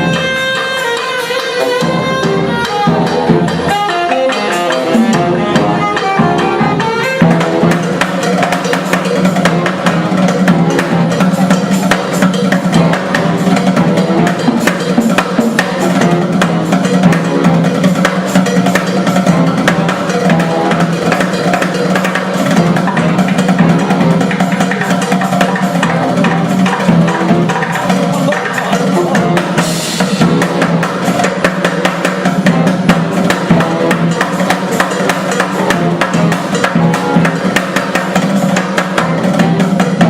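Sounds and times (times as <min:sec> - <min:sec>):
drums playing busy beat: 0:00.0 - 0:40.0.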